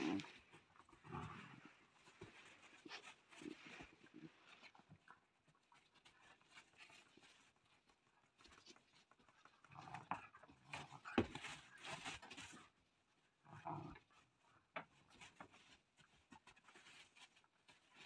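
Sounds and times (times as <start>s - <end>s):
puppies scuffling and playing: 0.0s - 18.0s.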